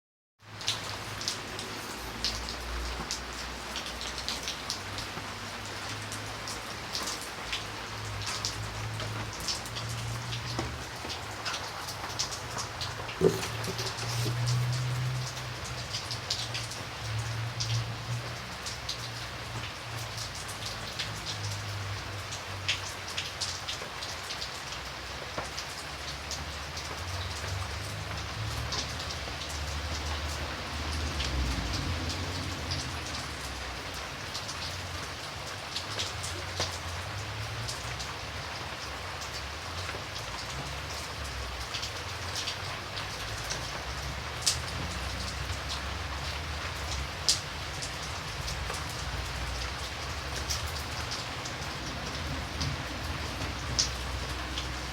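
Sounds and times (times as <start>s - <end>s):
raindrops ticking close by: 0.4s - 54.9s
steady rain: 0.4s - 54.9s.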